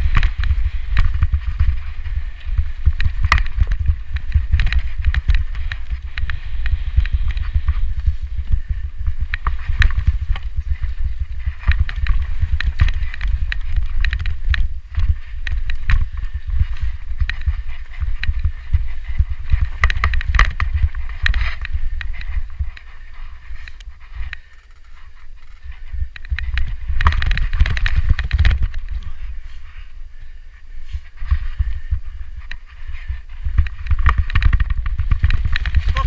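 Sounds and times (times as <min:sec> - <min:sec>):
air buffeting microphone: 0:00.0 - 0:36.0
bike rattles and clicks: 0:00.0 - 0:36.0.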